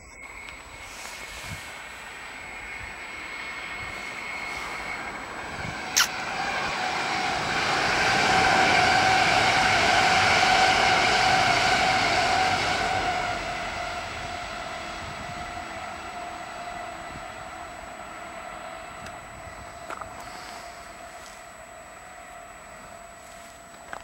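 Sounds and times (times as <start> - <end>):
electric train passing: 0.0 - 24.0
traction motors whining: 0.0 - 24.0.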